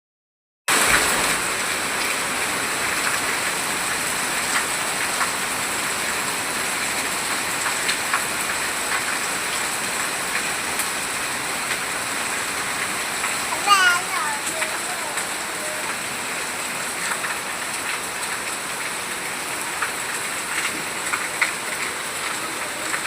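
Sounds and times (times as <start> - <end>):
raindrop ticks: 0.7 - 1.4, 2.8 - 5.9, 6.9 - 10.9, 11.6 - 23.0
rain falling: 0.7 - 23.0.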